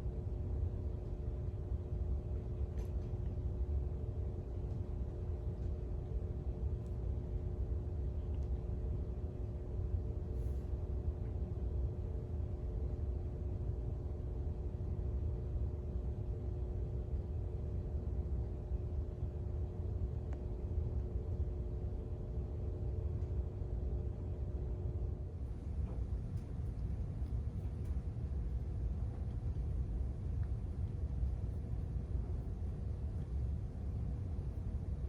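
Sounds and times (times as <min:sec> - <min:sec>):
constant hum: 0:00.0 - 0:35.0
steady low rumble: 0:00.0 - 0:35.0.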